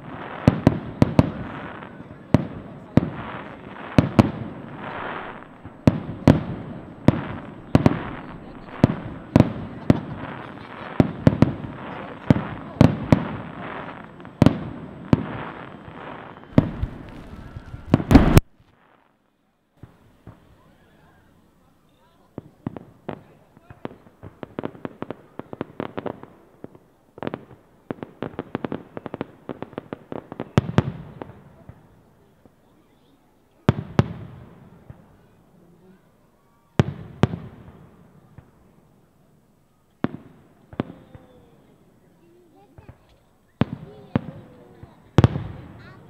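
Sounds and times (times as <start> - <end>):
fireworks bursting in loud bangs: 0.0 - 19.2, 22.4 - 32.6, 33.6 - 35.4, 36.7 - 38.8, 40.0 - 46.0
fireworks crackling: 0.0 - 46.0.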